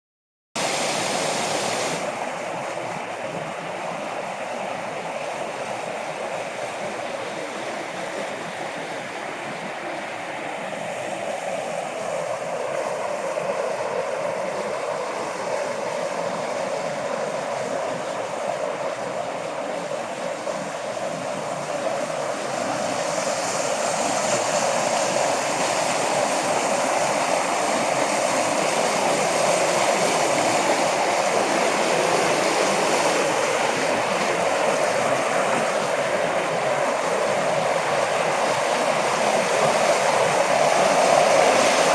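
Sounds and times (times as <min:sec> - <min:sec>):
stream water rushing: 0:00.6 - 0:41.9.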